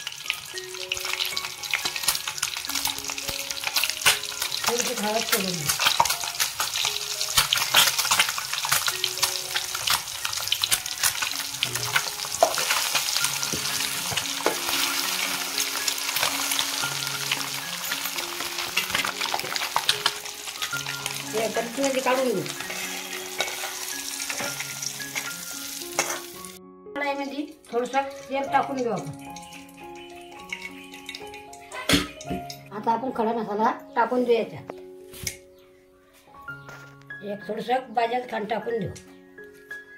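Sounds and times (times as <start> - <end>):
eggs sizzling in hot oil: 0.0 - 26.6, 27.2 - 32.8.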